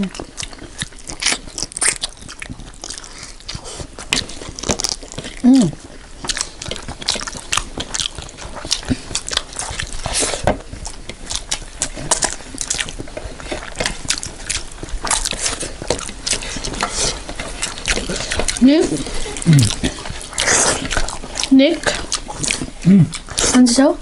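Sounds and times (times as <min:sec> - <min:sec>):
people chewing with wet smacks: 0:00.0 - 0:24.0.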